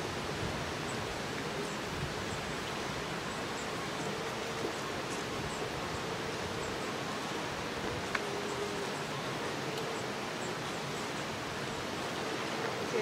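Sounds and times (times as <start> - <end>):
outdoor ambient noise: 0.0 - 13.0.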